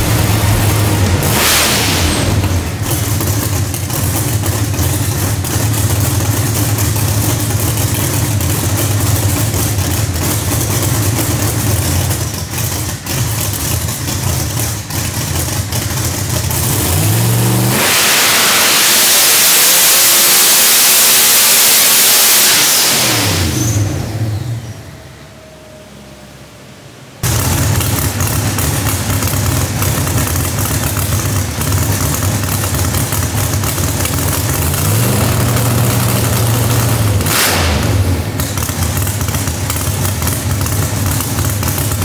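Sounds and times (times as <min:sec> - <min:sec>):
drag engine idling and revving: 0:00.0 - 0:42.0.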